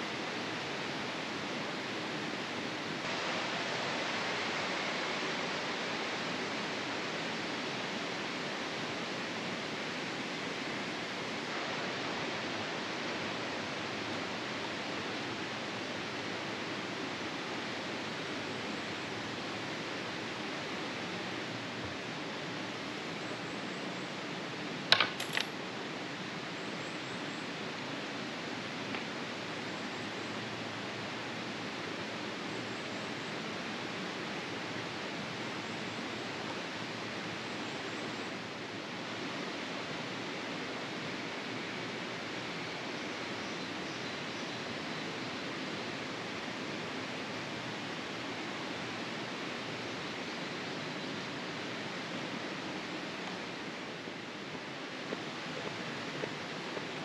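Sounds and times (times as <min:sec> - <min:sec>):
rushing outdoor ambience: 0:00.0 - 0:57.0.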